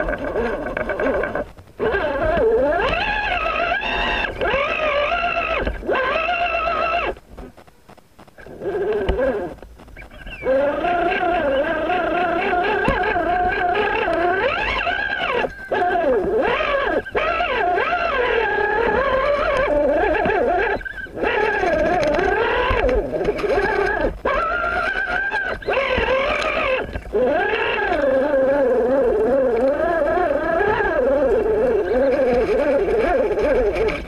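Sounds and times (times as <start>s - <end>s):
electric motor and gearbox whining: 0.0s - 7.7s, 8.4s - 34.0s.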